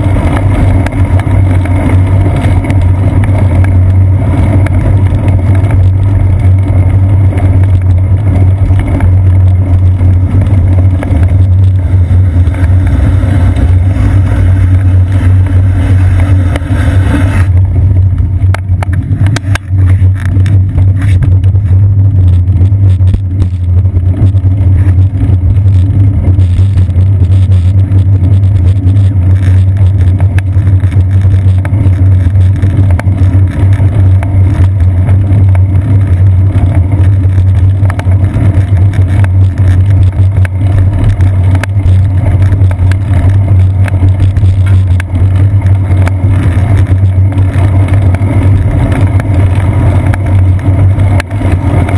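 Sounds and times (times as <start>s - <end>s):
road vibration rumble: 0.0s - 51.9s.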